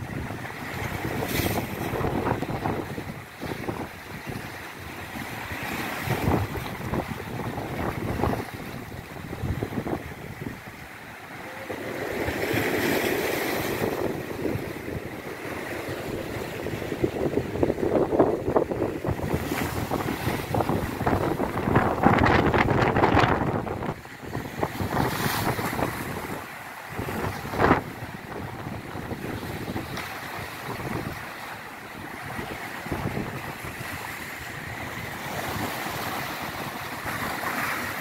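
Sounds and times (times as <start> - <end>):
sea waves washing on shore: 0.0 - 38.0
wind gusting on microphone: 0.0 - 38.0.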